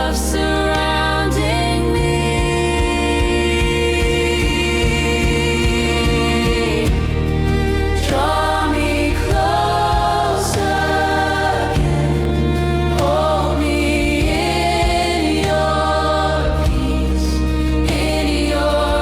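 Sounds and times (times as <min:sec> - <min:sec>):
held vocal notes: 0:00.0 - 0:19.0
steady low bass: 0:00.0 - 0:19.0.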